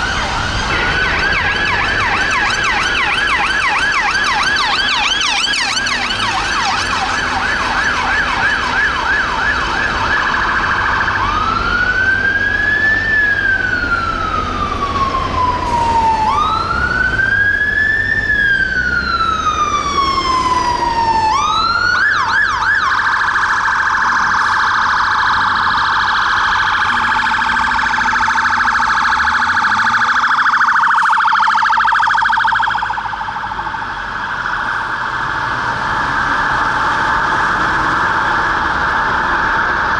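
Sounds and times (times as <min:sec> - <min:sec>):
fire engine sirens: 0:00.0 - 0:39.9.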